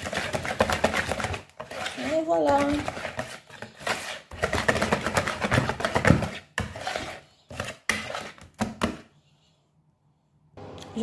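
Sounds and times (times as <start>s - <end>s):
utensil stirring in a bowl: 0.0s - 9.5s.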